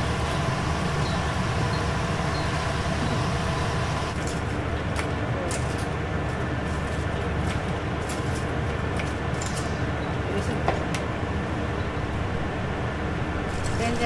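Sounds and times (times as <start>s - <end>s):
low mechanical rumble of machinery: 0.0s - 14.0s.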